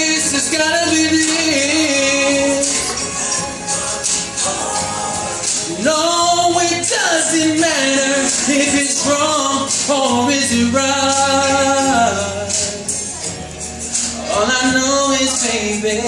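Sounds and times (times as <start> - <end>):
backing music: 0.0 - 16.0.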